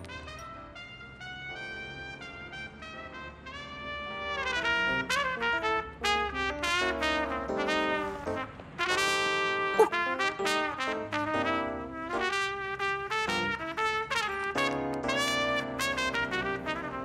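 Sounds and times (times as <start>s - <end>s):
trumpet melody: 0.0s - 17.0s.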